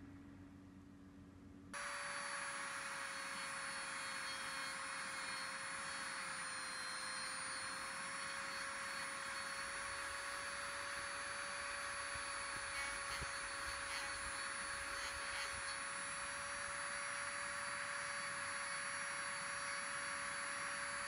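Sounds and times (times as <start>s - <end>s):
rotary tool high whine: 1.8s - 21.0s.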